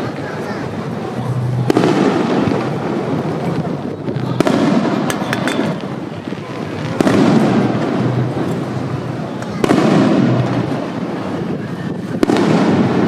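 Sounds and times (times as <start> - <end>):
crowd noise: 0.0 - 13.0
fireworks bangs: 0.0 - 13.0
fireworks crackling: 0.0 - 13.0.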